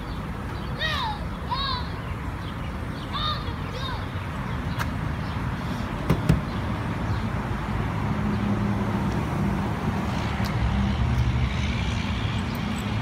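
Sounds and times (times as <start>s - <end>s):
outdoor background noise: 0.0s - 13.0s
vehicle engine humming: 0.0s - 13.0s.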